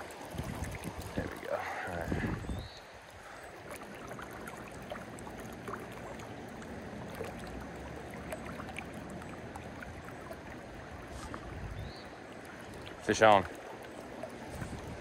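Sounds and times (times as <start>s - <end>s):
creek water running: 0.0s - 15.0s
small splashes and trickles: 0.0s - 15.0s.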